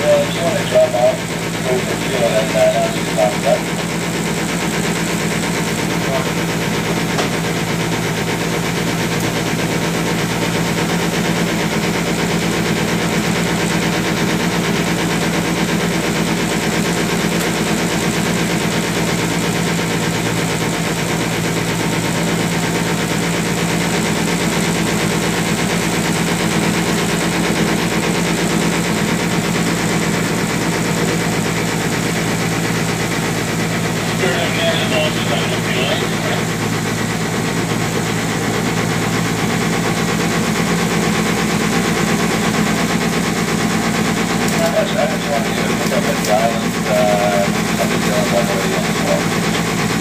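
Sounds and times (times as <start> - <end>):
ferry engine droning: 0.0 - 50.0.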